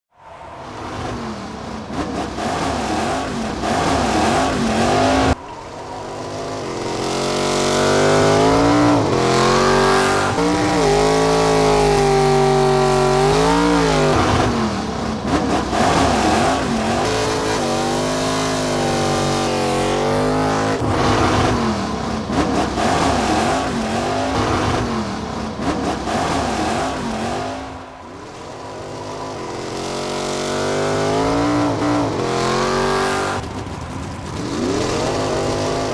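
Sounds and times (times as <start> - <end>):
car engine revving: 0.3 - 35.9.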